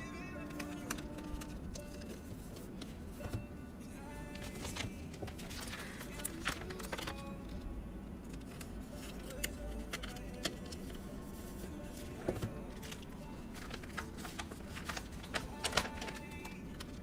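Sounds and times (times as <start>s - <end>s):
paper and stickers being handled: 0.1s - 3.4s, 4.3s - 7.6s, 8.2s - 17.0s.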